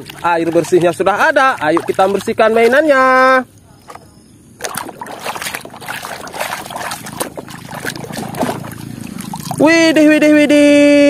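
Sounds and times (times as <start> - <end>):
water splashing in a tub: 0.0 - 10.1.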